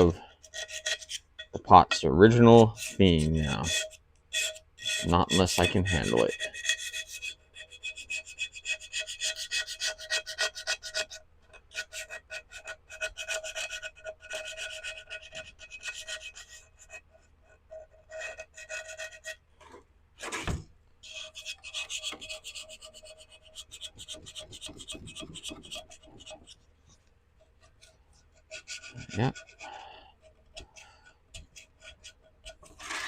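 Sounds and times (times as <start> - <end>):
tool scraping ceramic pot: 0.0 - 33.0.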